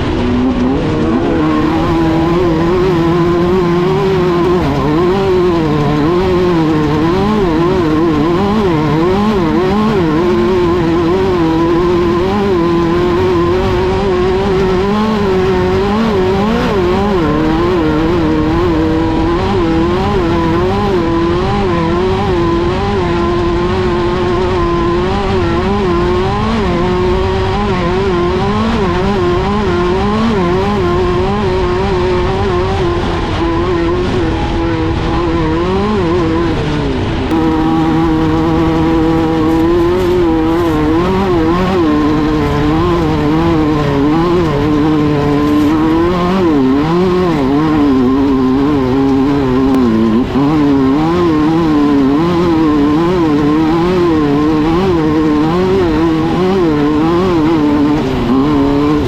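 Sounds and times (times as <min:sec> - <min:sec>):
race car engine revving unevenly: 0:00.0 - 0:59.0.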